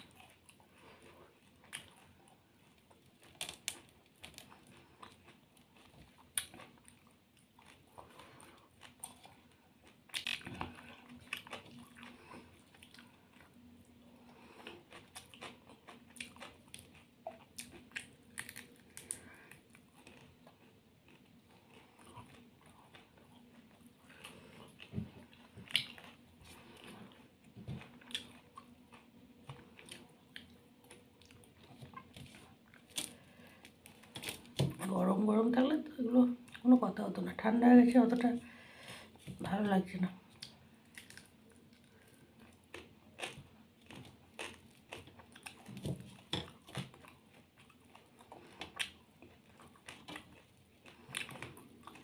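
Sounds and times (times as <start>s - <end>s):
person chewing and biting: 0.0s - 34.8s, 40.4s - 52.0s
faint steady hum: 0.0s - 52.0s.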